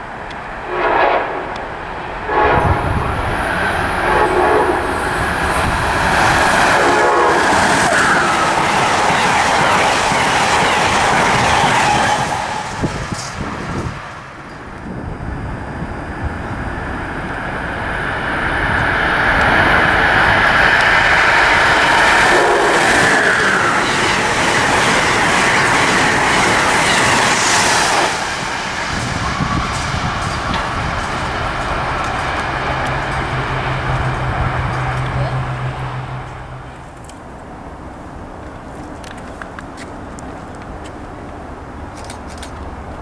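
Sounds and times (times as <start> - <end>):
train wheels clickety-clack: 2.4 - 43.0.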